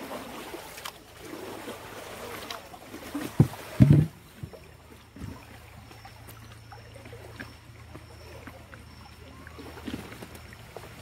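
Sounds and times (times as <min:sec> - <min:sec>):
paddle strokes: 0:00.0 - 0:11.0
water splashing against hull: 0:00.0 - 0:11.0.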